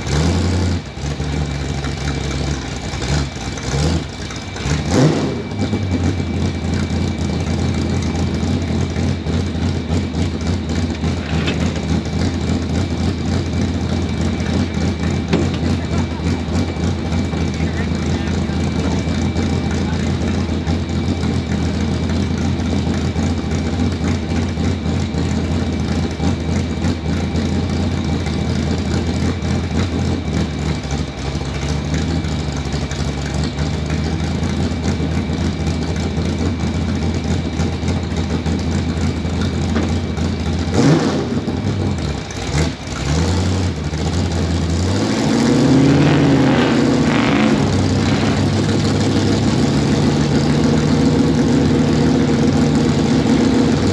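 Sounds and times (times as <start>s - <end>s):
truck engine running and revving: 0.0s - 53.9s.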